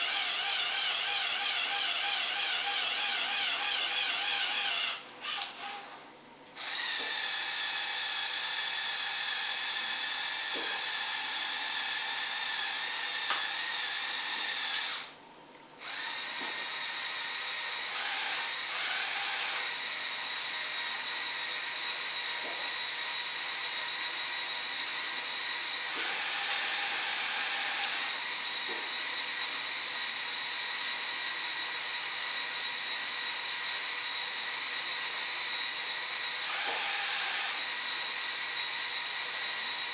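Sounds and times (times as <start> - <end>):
small electric motors whining: 0.0 - 6.0, 6.6 - 15.1, 15.8 - 39.9.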